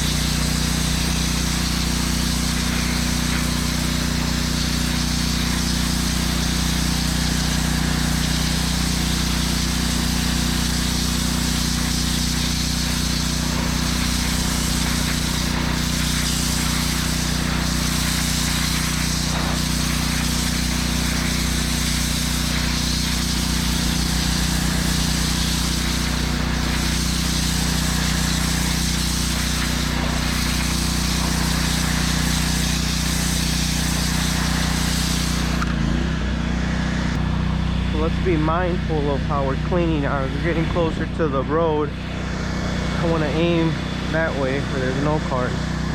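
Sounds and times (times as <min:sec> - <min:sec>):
pressure washer engine running: 0:00.0 - 0:45.9
water jet spraying concrete: 0:00.0 - 0:45.9.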